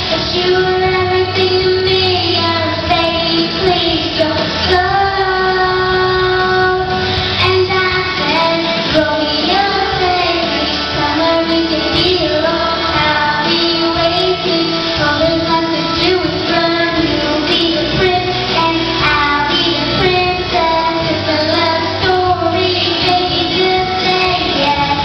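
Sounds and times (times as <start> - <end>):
girl singing into a microphone: 0.0 - 25.0
instrumental backing music: 0.0 - 25.0.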